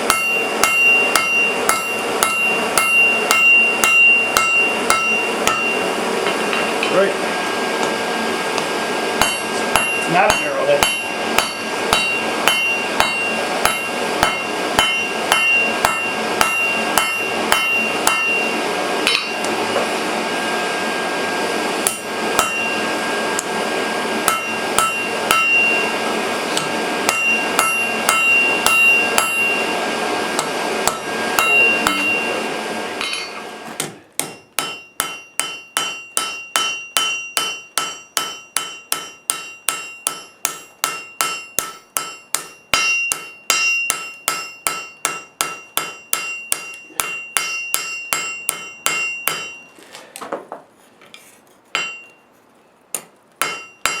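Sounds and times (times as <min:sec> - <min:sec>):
hammer blows on an anvil: 0:00.0 - 0:07.1, 0:08.6 - 0:19.9, 0:21.8 - 0:22.9, 0:24.2 - 0:26.0, 0:26.6 - 0:49.7, 0:51.8 - 0:52.2, 0:53.4 - 0:54.0.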